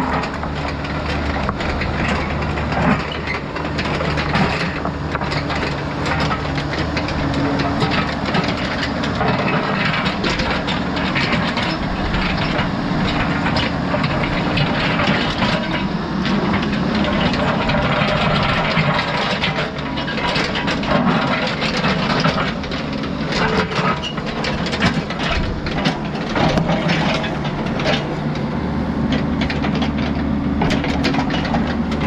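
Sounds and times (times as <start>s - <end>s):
heavy equipment engine running: 0.0s - 32.0s
stones clanking and scraping: 0.0s - 32.0s.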